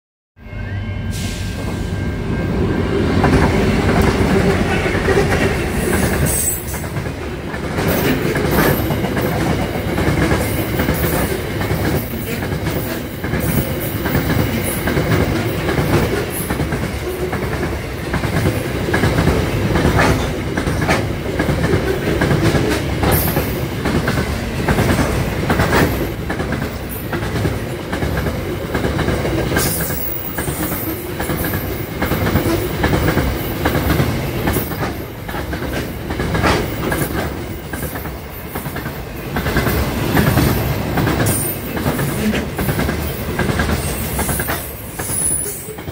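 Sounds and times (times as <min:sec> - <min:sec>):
train wagons rumbling on rails: 0:01.1 - 0:45.9
wheels clacking over rail joints: 0:03.2 - 0:45.9.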